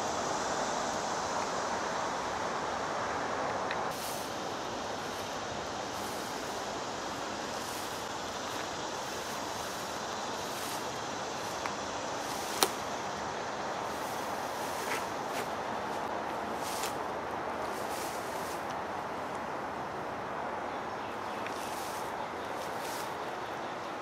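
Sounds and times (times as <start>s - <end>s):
distant road traffic: 0.0s - 24.0s.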